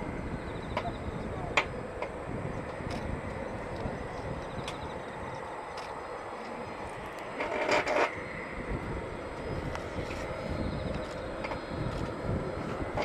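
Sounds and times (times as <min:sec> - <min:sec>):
distant jet engine rushing: 0:00.0 - 0:13.0.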